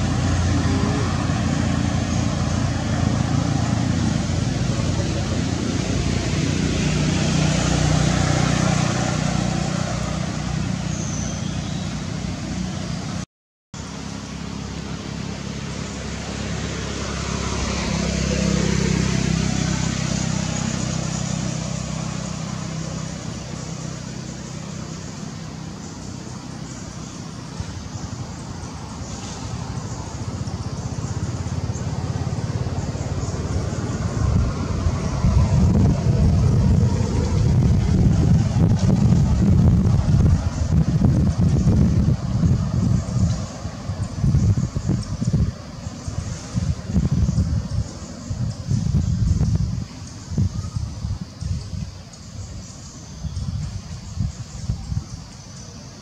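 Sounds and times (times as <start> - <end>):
motor vehicles passing: 0.0 - 56.0.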